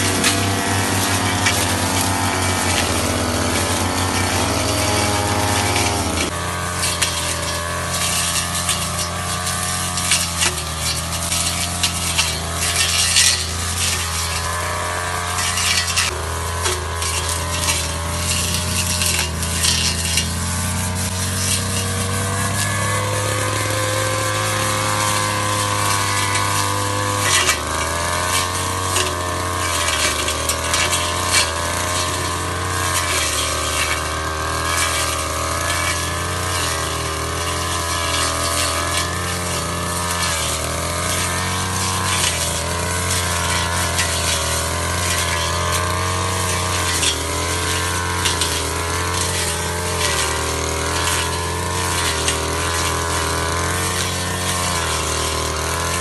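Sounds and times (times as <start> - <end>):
blade ticking against stems: 0.0 - 56.0
brush cutter engine running: 0.0 - 56.0.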